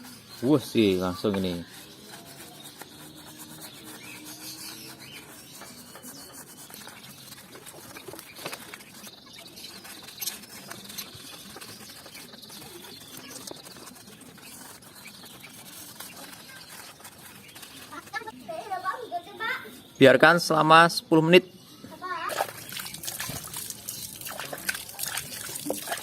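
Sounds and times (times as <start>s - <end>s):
brush scrubbing metal: 0.0s - 18.4s, 22.4s - 26.0s.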